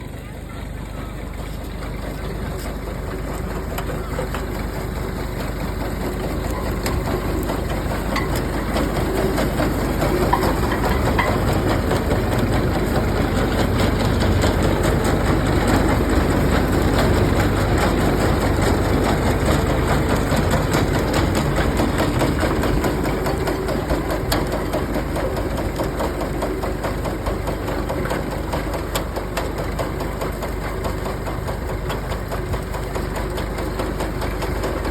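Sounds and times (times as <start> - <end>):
harvester machine clatter: 0.0 - 34.9
tractor engine running: 0.0 - 34.9.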